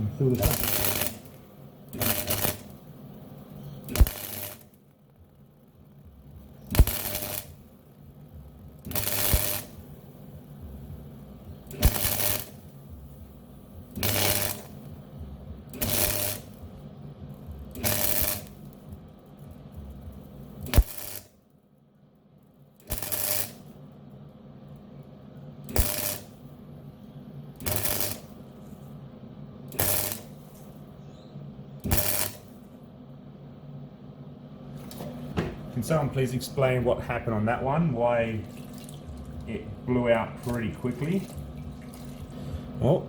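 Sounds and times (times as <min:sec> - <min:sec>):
welder arc crackling: 0:00.0 - 0:21.5, 0:22.5 - 0:31.0, 0:31.6 - 0:33.0, 0:34.6 - 0:43.0.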